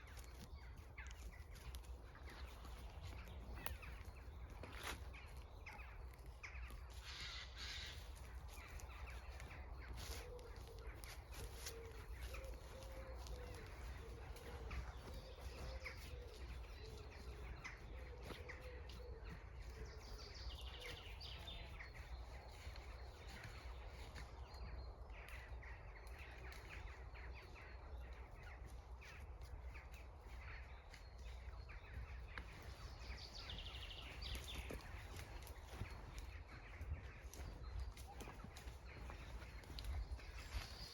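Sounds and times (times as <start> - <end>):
bird calling: 0.0 - 24.6, 25.2 - 40.9
small birds chirping: 0.0 - 40.9.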